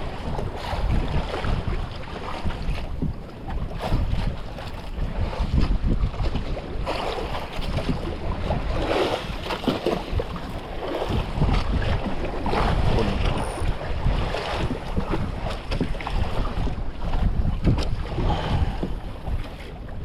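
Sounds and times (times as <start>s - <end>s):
sea water splashing around boat: 0.0s - 20.0s
wind buffeting microphone: 0.0s - 20.0s.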